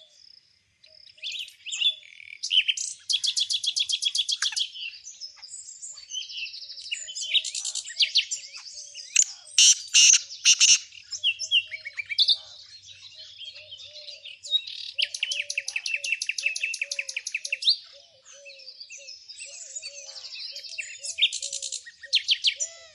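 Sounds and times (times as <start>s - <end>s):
songbirds chirping and trilling: 0.0s - 22.9s.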